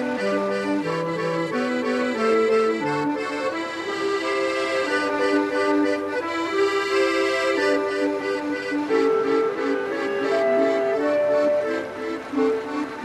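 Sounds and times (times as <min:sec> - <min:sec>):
accordion melody: 0:00.0 - 0:13.0.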